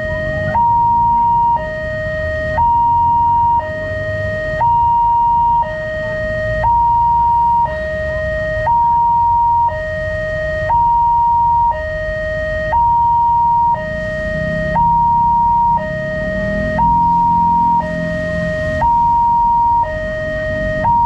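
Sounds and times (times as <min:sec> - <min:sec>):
two-tone electronic warning alarm: 0:00.0 - 0:21.0.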